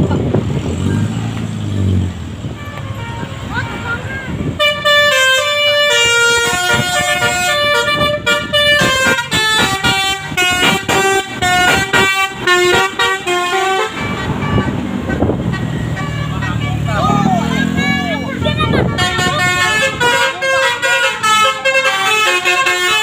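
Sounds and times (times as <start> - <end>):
bus horn playing a tune: 2.4 - 23.0.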